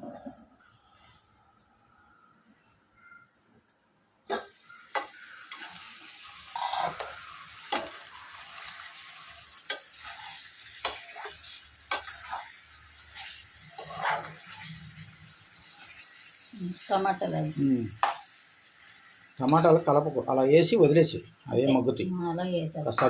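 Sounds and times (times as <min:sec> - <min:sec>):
food sizzling in a hot pan: 0:04.3 - 0:23.0.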